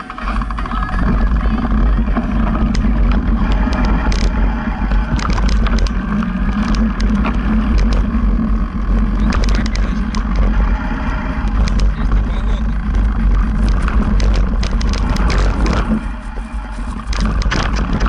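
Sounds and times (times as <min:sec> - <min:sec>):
bike clicks and rattles: 0:00.0 - 0:18.0
wind rumbling on microphone: 0:00.0 - 0:18.0.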